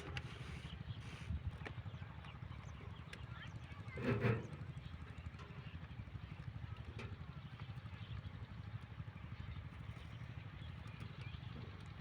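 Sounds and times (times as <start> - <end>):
diesel water pump engine chugging: 0.0 - 12.0.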